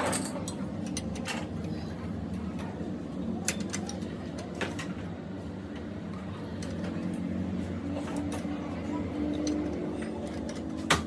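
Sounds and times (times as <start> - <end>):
low workshop rumble: 0.0 - 11.0.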